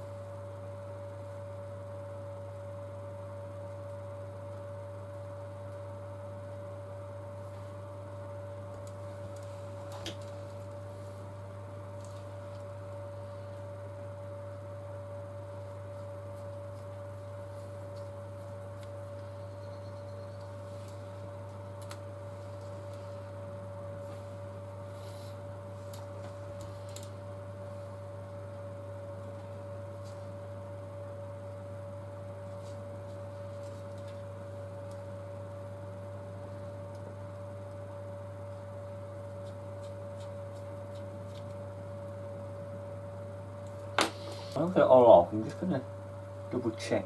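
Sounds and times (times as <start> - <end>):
electrical hum: 0.0 - 47.0.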